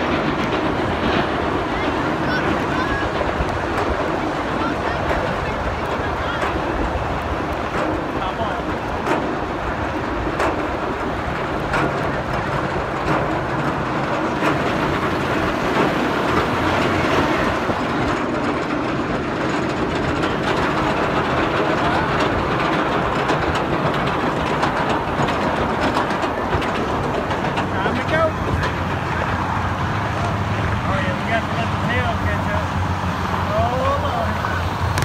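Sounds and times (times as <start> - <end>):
roller coaster lift chain clattering: 0.0 - 35.0.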